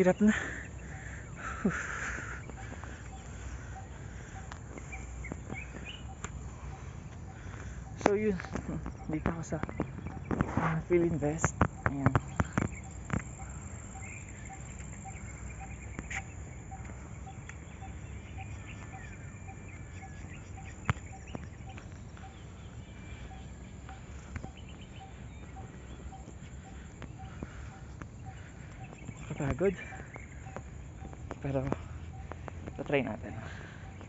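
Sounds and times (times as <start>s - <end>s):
faint birds chirping: 0.0s - 34.0s
soft pulsing insect call: 0.0s - 34.0s
steady low rumble: 0.0s - 34.0s.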